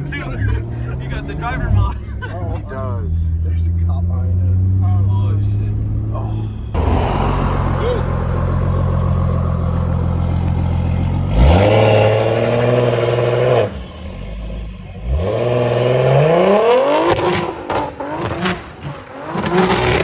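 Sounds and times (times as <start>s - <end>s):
car engine revving: 0.0s - 20.0s
exhaust cracks: 0.0s - 20.0s.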